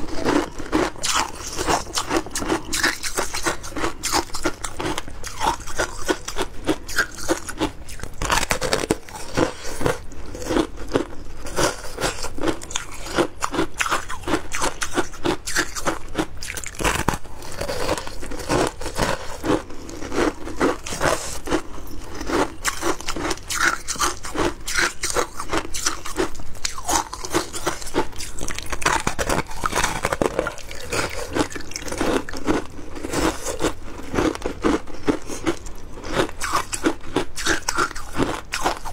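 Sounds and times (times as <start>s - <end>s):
crunching and chewing ice: 0.0s - 38.9s.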